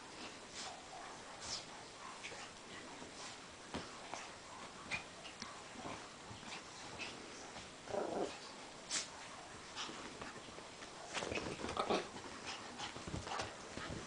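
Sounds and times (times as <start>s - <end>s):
bedding rustling: 0.1s - 14.0s.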